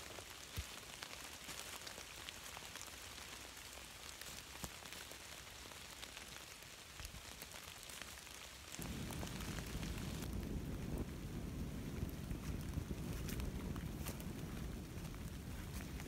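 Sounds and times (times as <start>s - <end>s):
rain on leaves and trees: 0.0s - 16.0s.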